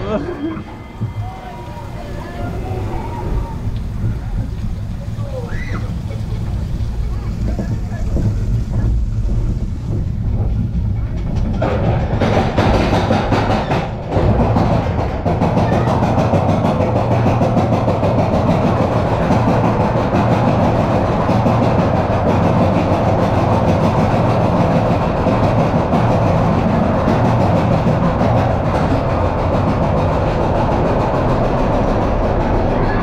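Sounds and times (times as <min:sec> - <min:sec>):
roller coaster wheels rattling on rail: 0:00.0 - 0:33.0.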